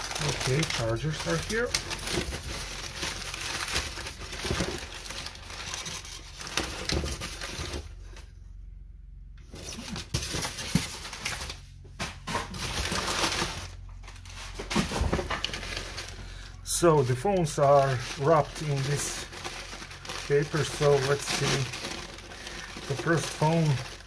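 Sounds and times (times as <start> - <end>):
packing paper rustling: 0.0 - 8.3, 9.5 - 24.0.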